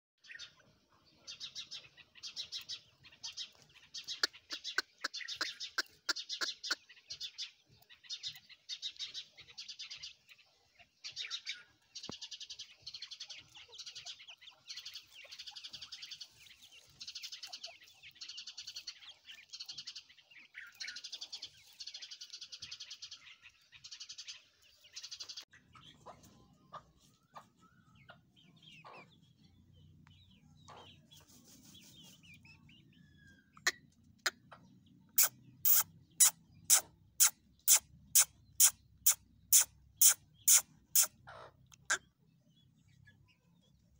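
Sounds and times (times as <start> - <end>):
chicks chirping: 0.2 - 43.9.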